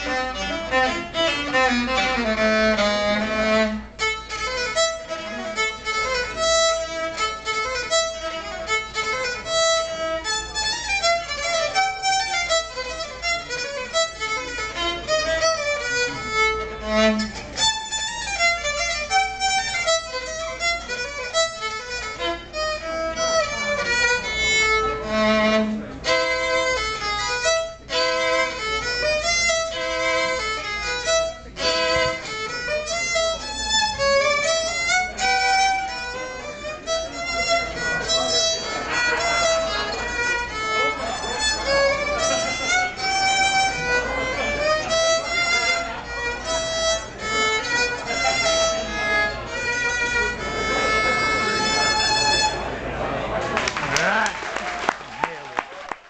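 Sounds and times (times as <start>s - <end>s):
violin playing quick runs: 0.0s - 52.7s.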